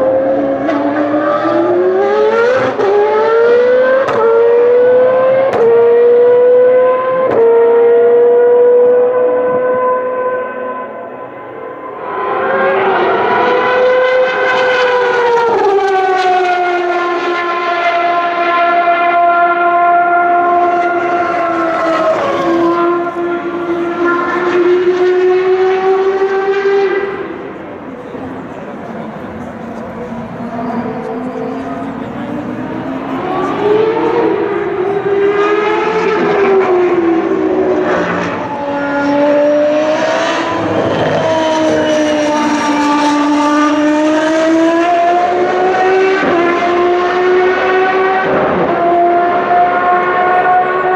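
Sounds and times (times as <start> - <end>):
racing car engine at high revs: 0.0 - 50.9.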